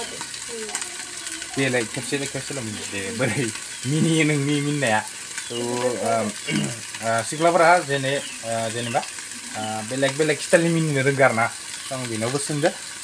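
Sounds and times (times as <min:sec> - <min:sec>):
food sizzling in a pan: 0:00.0 - 0:13.0
man talking: 0:01.6 - 0:12.8.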